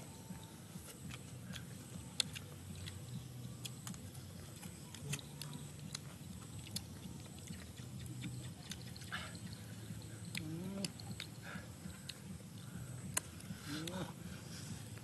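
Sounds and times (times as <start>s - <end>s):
low steady hum: 0.0s - 15.0s
chewing and crunching food: 0.2s - 15.0s.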